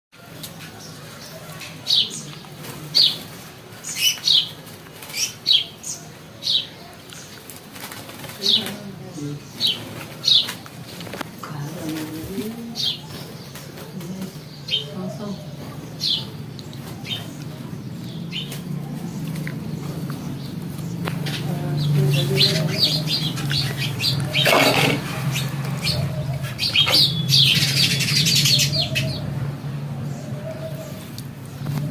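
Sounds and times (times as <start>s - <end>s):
birds chirping: 0.2s - 31.9s.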